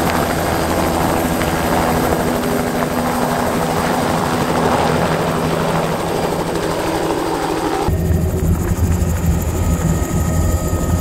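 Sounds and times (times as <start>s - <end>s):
helicopter engine drone: 0.0s - 11.0s
helicopter rotor blades beating: 0.0s - 11.0s.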